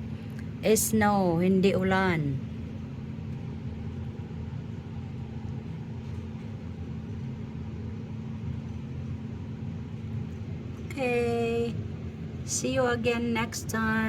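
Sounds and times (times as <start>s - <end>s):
faint hum: 0.0s - 14.0s
steady low rumble: 0.0s - 14.0s.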